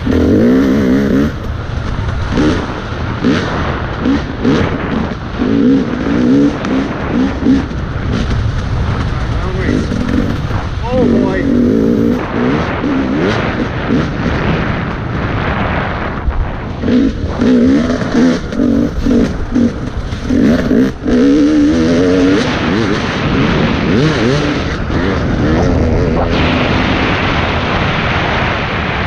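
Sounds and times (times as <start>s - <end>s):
dirt bike engine revving: 0.0s - 28.5s
rushing noise: 0.0s - 29.0s.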